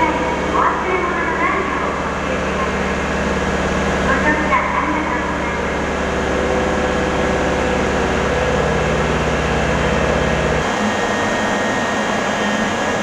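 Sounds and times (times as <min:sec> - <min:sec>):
noisy station background: 0:00.0 - 0:13.0
train equipment low hum: 0:00.0 - 0:13.0.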